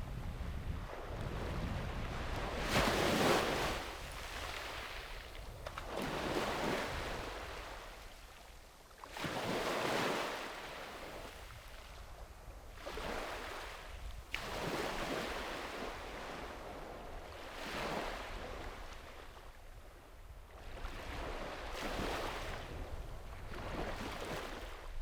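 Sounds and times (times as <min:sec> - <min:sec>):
waves washing up a beach: 0:00.0 - 0:25.0.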